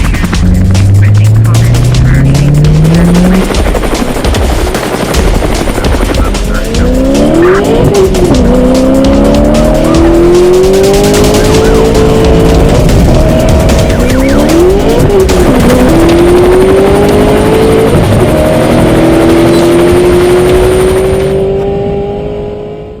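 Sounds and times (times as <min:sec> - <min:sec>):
car engines at high revs: 0:00.0 - 0:23.0.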